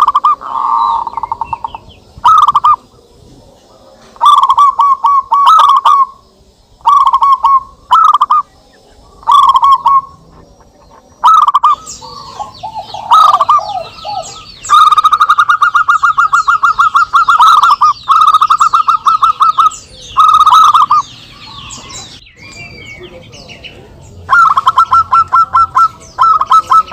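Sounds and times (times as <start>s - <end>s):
doves cooing: 0.0s - 26.9s
small birds chirping: 0.0s - 26.9s.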